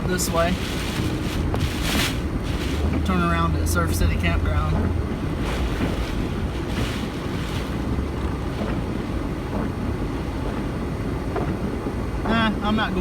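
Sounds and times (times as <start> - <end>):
car driving low rumble: 0.0 - 13.0
wind buffeting microphone: 0.0 - 13.0.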